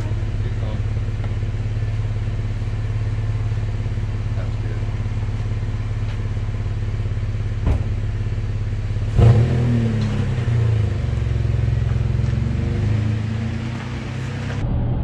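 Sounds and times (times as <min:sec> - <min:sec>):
pickup truck engine idling: 0:00.0 - 0:14.6.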